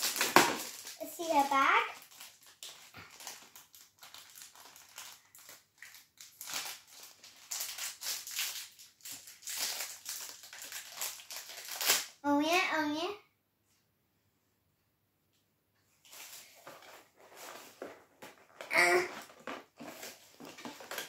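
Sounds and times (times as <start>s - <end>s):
plastic packaging crinkling: 0.0s - 12.2s, 16.0s - 21.0s.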